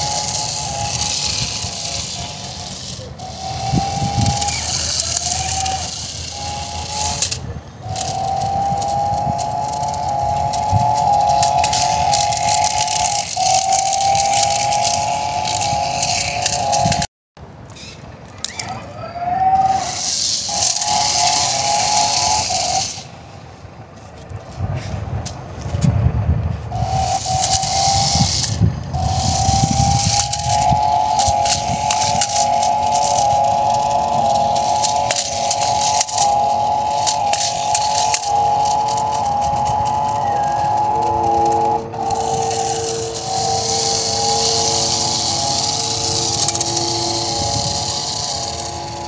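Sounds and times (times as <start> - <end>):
rc car motor whining: 0.0 - 17.1, 17.7 - 23.7, 26.5 - 49.0
continuous hiss: 0.0 - 49.0.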